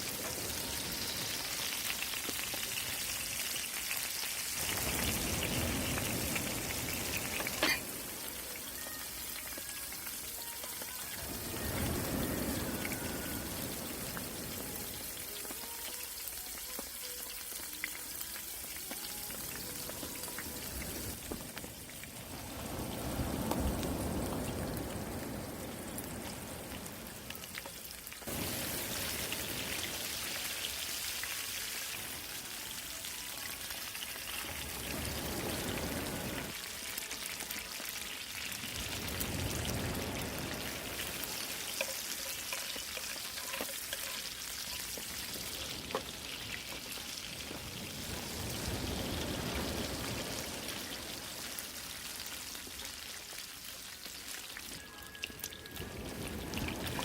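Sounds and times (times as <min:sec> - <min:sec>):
fish sizzling: 0:00.0 - 0:57.0.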